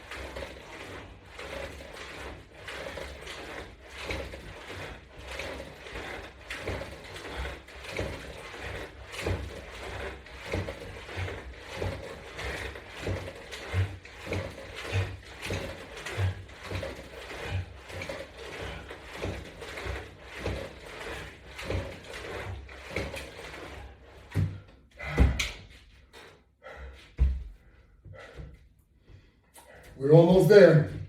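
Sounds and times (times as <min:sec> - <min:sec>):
exercise band clicking and rattling: 0:00.0 - 0:31.0.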